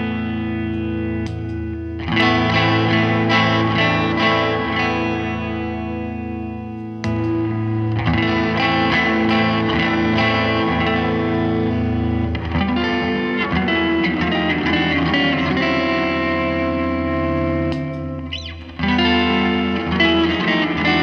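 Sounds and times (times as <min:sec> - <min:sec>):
electric guitar with reverb: 0:00.0 - 0:21.0.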